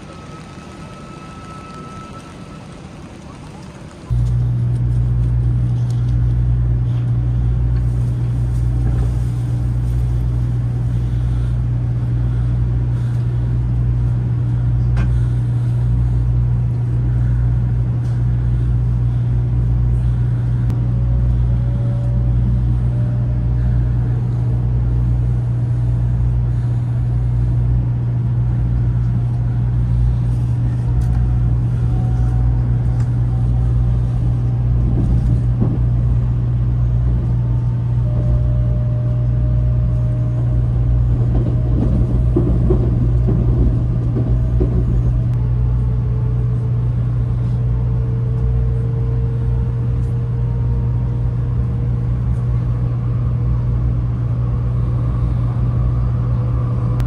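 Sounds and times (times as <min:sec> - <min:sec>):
faint rising whine: 0:00.0 - 0:57.0
train low rumble: 0:00.0 - 0:57.0.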